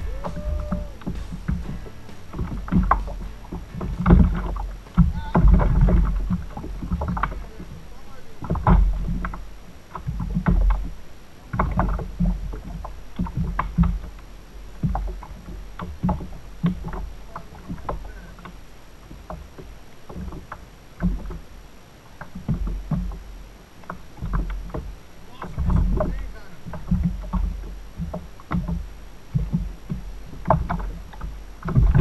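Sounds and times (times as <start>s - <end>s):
knocks and clicks from kayak: 0.0s - 32.0s
water lapping against kayak hull: 0.0s - 32.0s.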